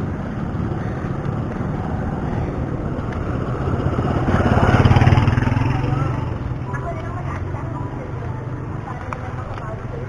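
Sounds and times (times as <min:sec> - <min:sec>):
motor vehicle passing: 0:00.0 - 0:10.0
road and traffic noise: 0:00.0 - 0:10.0.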